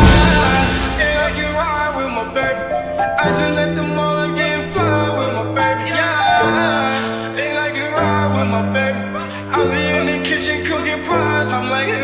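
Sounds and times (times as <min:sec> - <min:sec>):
hip-hop song with singing: 0:00.0 - 0:12.0.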